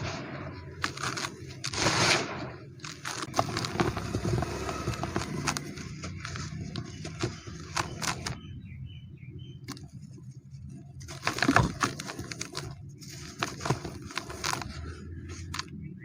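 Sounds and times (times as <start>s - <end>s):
dry cement crumbling: 0.0s - 8.4s, 9.7s - 15.7s.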